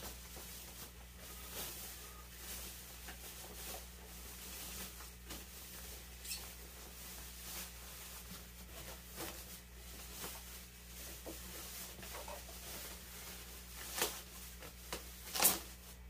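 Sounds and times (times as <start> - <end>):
plastic wrapping rustling: 0.0 - 16.0.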